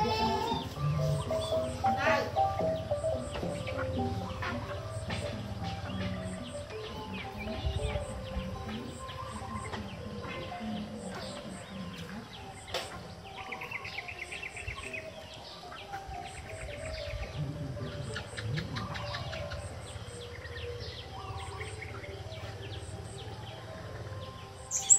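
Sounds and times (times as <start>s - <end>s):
small birds chirping and trilling: 0.0s - 24.9s.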